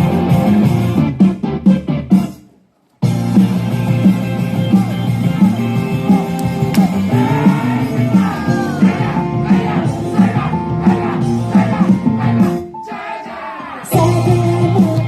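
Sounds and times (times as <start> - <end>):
rock band playing: 0.0 - 2.4, 3.0 - 12.7, 14.0 - 15.0.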